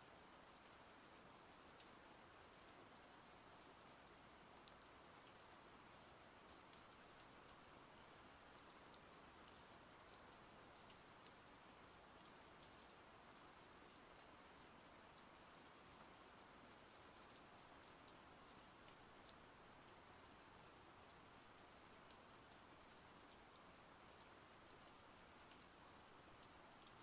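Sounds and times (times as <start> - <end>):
faint steady rain: 0.0 - 27.0.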